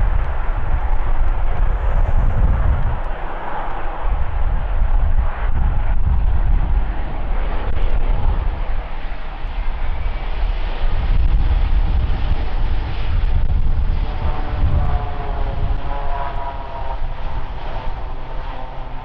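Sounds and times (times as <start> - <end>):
deep rumbling jet roar: 0.0 - 19.0.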